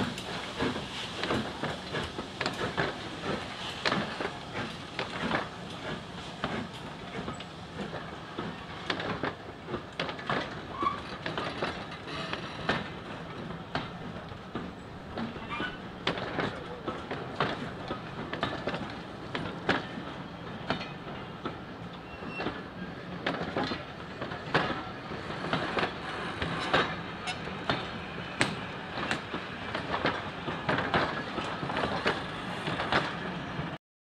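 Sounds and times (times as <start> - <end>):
train wheels rumbling on track: 0.0 - 33.8.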